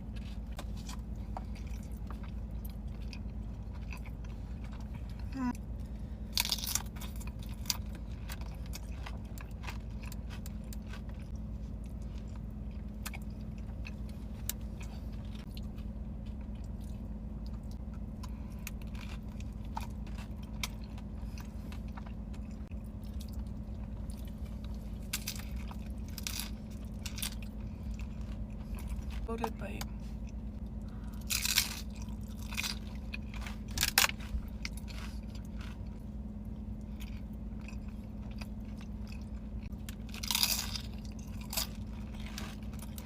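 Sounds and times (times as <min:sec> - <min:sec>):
chewing and biting: 0:00.0 - 0:43.0
steady low hum: 0:00.0 - 0:43.0.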